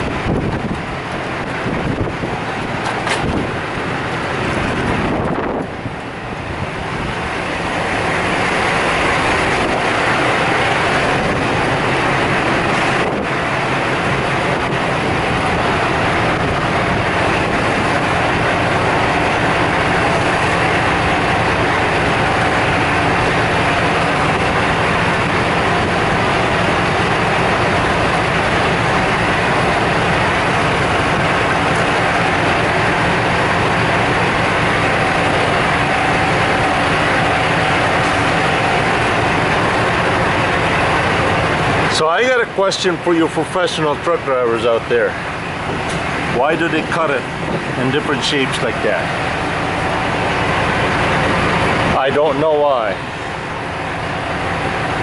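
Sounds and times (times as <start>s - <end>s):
heavy engine droning: 0.0s - 55.0s.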